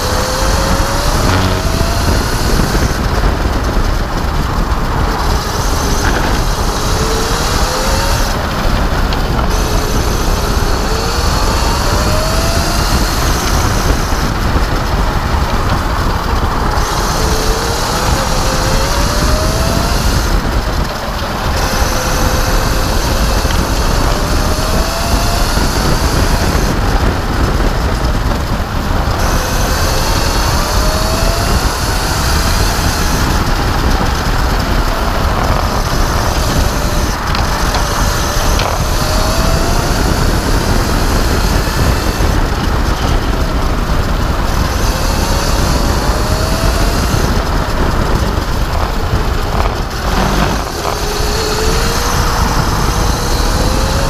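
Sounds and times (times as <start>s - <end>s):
electric kart drive whine: 0.0s - 54.0s
wind and tyre noise: 0.0s - 54.0s.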